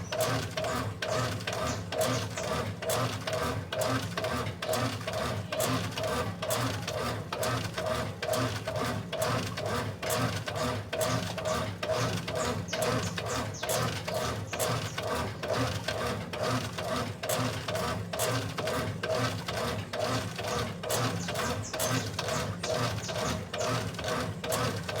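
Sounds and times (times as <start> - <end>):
washing machine pulsing whir: 0.0 - 25.0.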